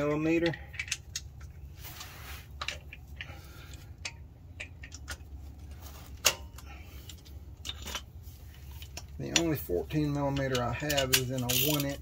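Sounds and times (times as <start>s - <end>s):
hand tools clinking: 0.0s - 12.0s.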